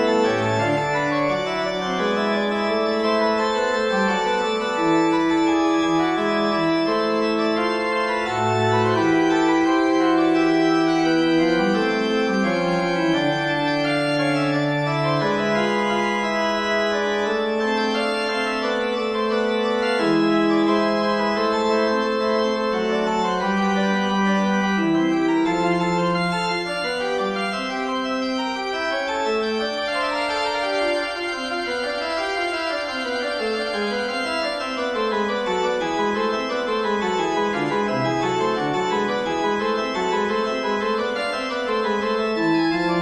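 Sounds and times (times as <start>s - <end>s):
organ playing a fugue: 0.0s - 43.0s.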